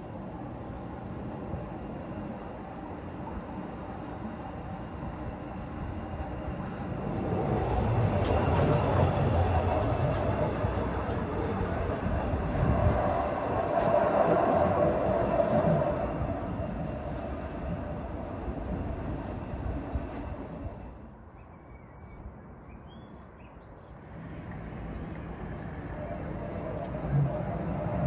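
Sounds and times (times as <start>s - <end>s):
funicular car rumbling on rails: 0.0s - 21.1s, 24.0s - 28.0s.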